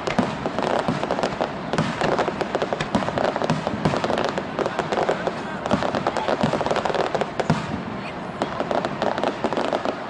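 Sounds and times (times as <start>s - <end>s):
fireworks banging and crackling: 0.0s - 10.0s.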